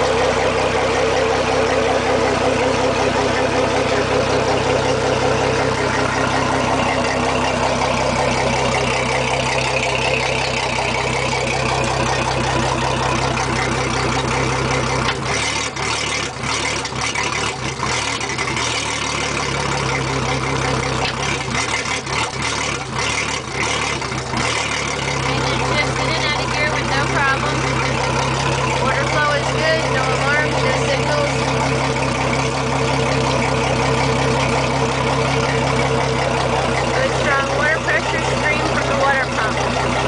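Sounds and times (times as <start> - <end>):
outboard engine idling: 0.0 - 40.0.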